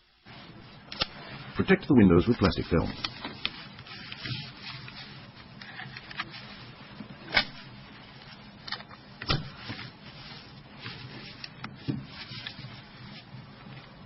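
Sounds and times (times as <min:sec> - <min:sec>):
plastic film crinkling: 0:02.2 - 0:14.0.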